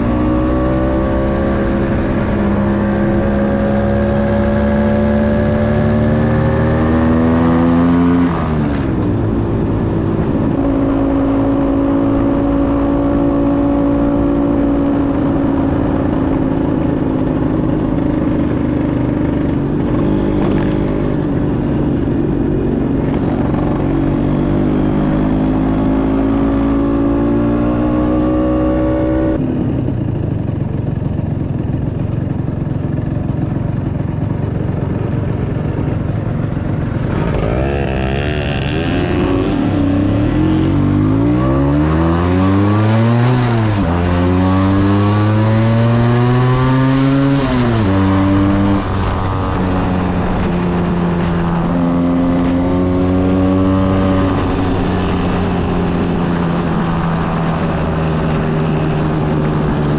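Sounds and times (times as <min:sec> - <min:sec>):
scooter engine accelerating: 0:00.0 - 0:59.9
wind and road noise: 0:00.0 - 0:59.9.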